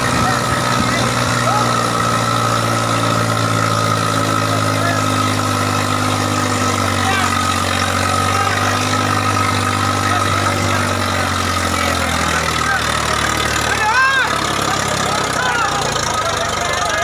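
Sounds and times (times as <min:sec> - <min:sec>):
crowd voices: 0:00.0 - 0:17.0
tractor diesel engine running: 0:00.0 - 0:17.0.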